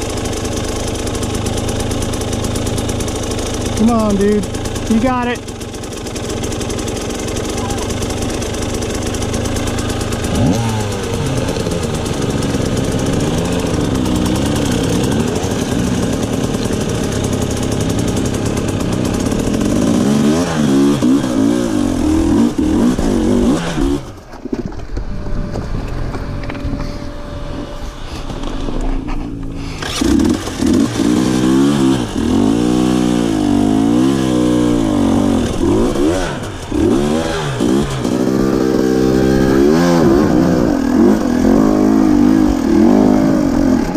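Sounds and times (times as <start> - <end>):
dirt bike engine revving: 0.0 - 24.2, 24.9 - 43.9.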